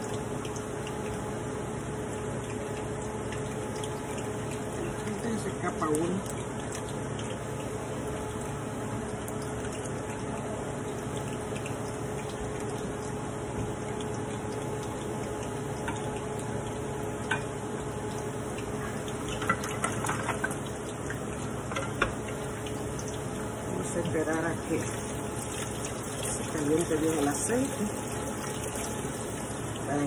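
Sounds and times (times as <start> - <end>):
oil sizzling in a frying pan: 0.0 - 30.0.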